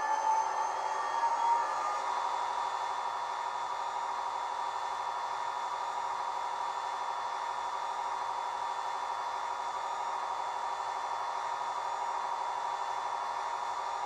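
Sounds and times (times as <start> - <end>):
model locomotive engine drone: 0.0 - 14.0.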